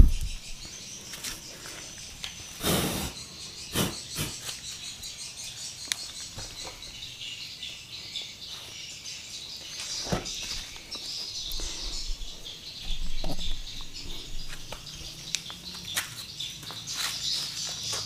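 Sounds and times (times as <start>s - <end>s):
birds chirping: 0.0s - 18.0s
insects chirping: 0.0s - 18.0s.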